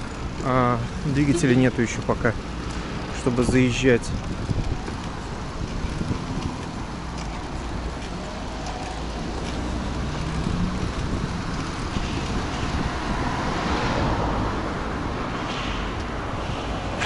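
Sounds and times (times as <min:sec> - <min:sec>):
road and traffic noise: 0:00.0 - 0:17.0
wind on microphone: 0:03.3 - 0:17.0.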